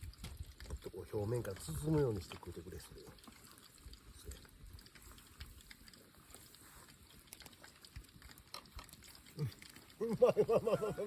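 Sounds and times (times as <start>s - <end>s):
small scattered clicks: 0.0s - 10.0s.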